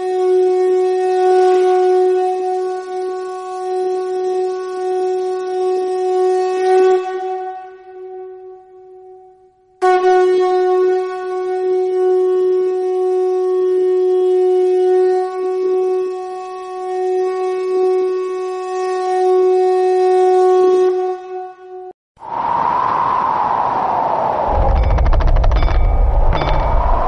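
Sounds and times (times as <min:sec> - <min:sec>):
conch shell blown: 0:00.0 - 0:21.9.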